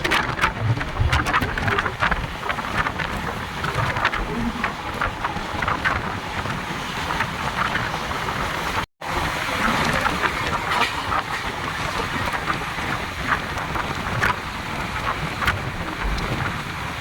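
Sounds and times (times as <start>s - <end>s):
train rattles and clatter: 0.0s - 17.0s
train running rumble: 0.0s - 17.0s.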